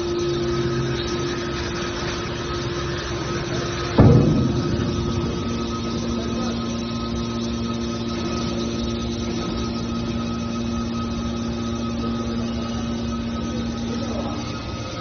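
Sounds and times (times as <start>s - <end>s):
constant machine whine: 0.0s - 15.0s
hydraulic power unit humming: 0.0s - 15.0s.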